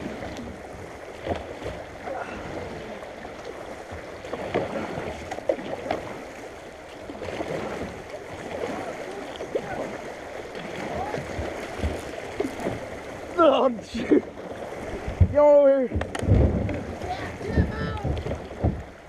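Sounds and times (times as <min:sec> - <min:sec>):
water rushing through rapids: 0:00.0 - 0:19.0.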